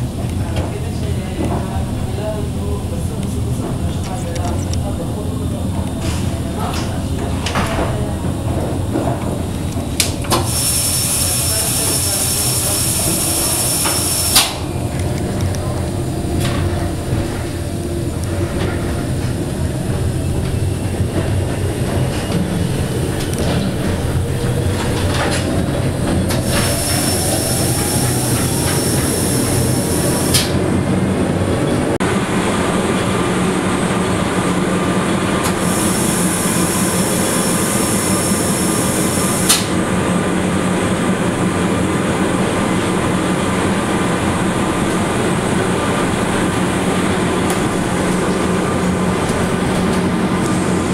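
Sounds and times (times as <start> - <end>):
railcar motor whine: 0.0 - 50.9.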